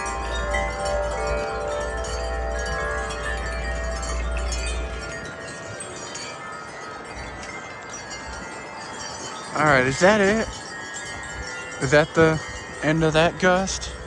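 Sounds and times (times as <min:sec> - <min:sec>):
wind chimes ringing: 0:00.0 - 0:14.0
wind rumbling on microphone: 0:00.0 - 0:14.0.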